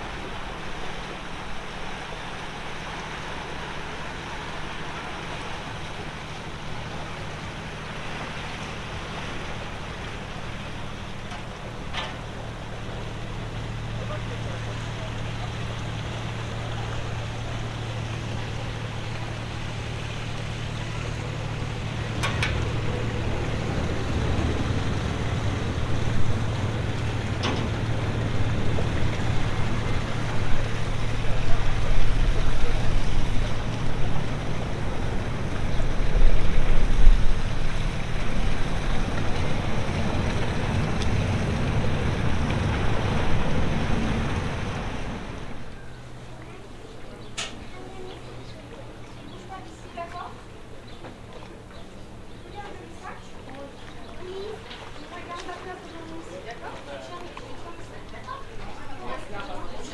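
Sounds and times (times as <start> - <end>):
boat engine hum: 0.0 - 59.9
rushing water: 0.0 - 59.9
wind: 0.0 - 59.9.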